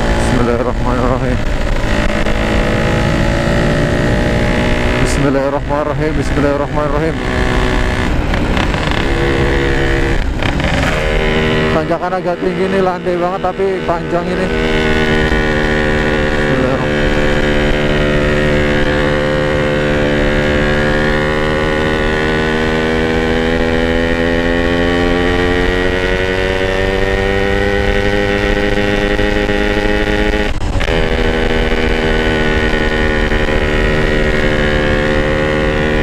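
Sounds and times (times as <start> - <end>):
motorcycle engine pulling under load: 0.0 - 36.0.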